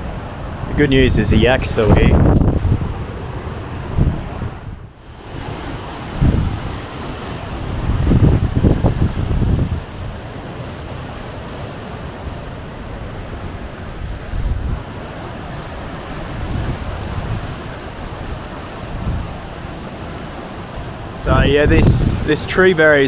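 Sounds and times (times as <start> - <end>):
storm wind buffeting microphone: 0.0 - 11.2, 12.8 - 23.0.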